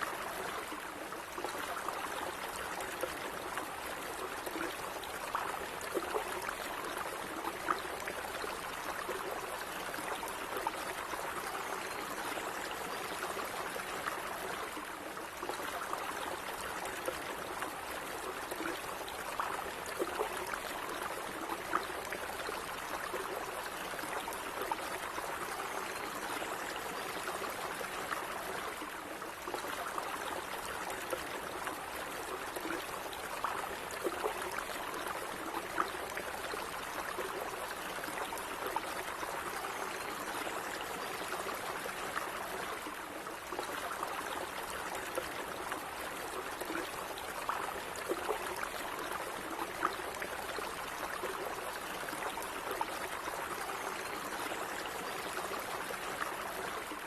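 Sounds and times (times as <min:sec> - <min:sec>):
stream trickling over stones: 0:00.0 - 0:57.0.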